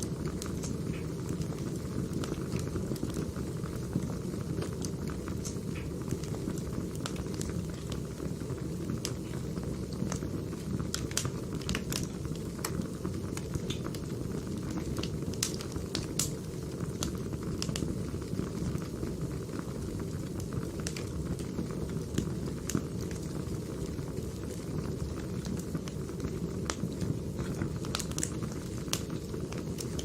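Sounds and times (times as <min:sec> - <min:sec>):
firewood burning with pops: 0:00.0 - 0:30.0.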